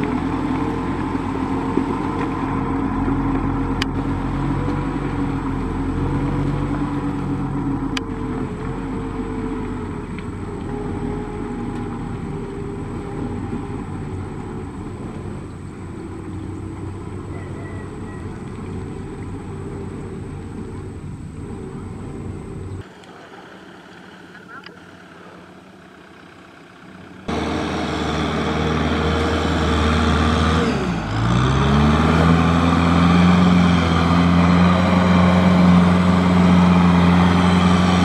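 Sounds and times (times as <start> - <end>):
farm vehicle engine in mud: 0.0 - 38.0.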